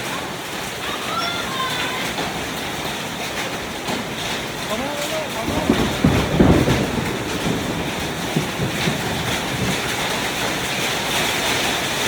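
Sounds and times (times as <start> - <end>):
heavy rain and hail pelting: 0.0 - 12.0.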